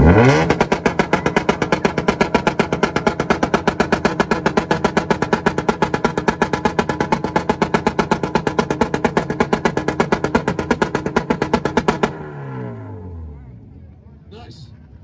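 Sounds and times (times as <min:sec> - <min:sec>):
car engine revving: 0:00.0 - 0:14.1.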